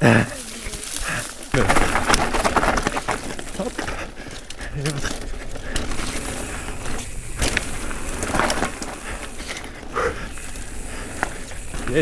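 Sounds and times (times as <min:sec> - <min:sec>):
bike tyre and trail noise: 0:00.0 - 0:12.0
bike knocks and rattles over bumps: 0:00.3 - 0:12.0.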